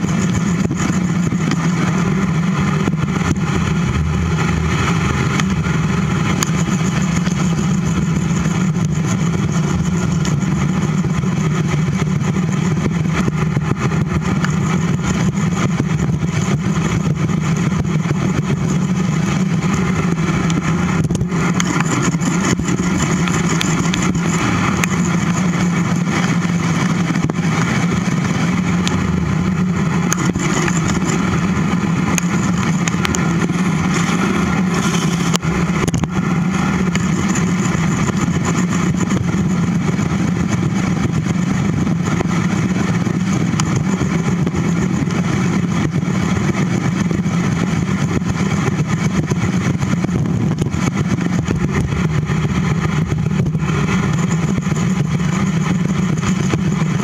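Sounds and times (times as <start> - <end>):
bicycle rumbling on paved trail: 0.0 - 57.0
low drone: 0.0 - 57.0
wind rushing over camera: 0.0 - 57.0.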